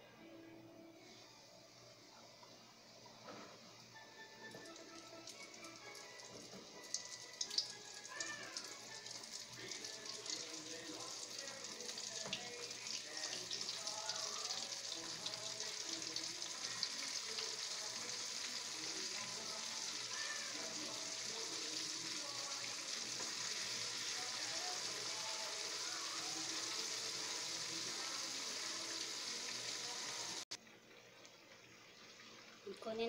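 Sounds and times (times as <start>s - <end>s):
oil sizzling and bubbling: 2.1s - 33.0s.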